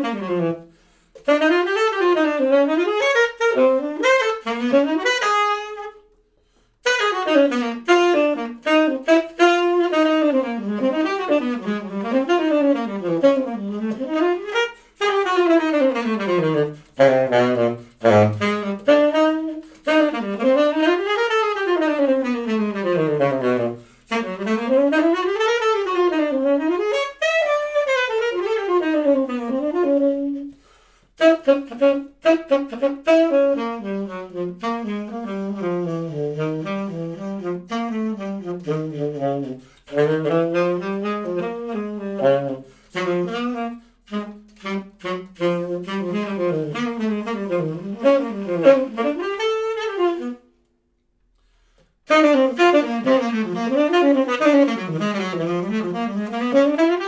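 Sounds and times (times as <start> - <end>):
tenor saxophone playing blues: 0.0 - 57.0.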